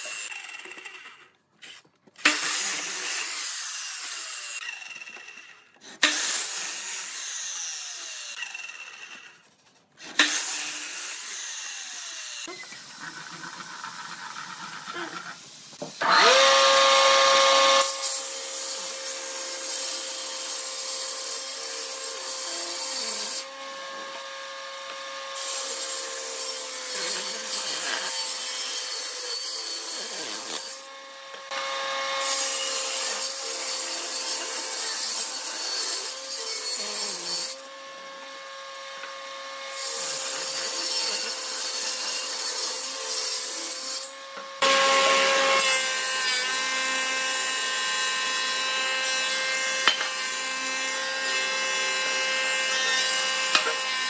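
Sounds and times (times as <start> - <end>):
table saw cutting wood: 0.0 - 54.0.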